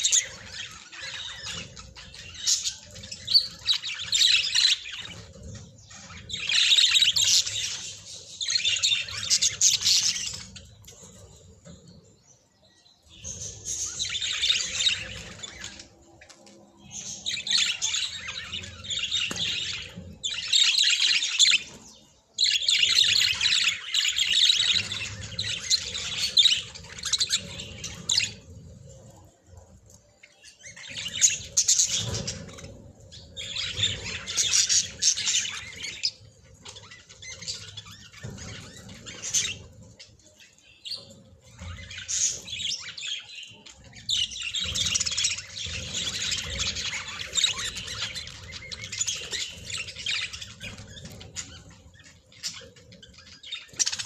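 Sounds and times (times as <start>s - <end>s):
budgerigars chattering and chirping: 0.0s - 11.9s, 13.1s - 16.0s, 16.8s - 28.7s, 30.4s - 54.0s.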